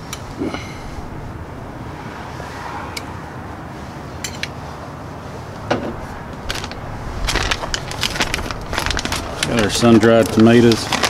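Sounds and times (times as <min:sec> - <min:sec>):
low background rumble: 0:00.2 - 0:11.0.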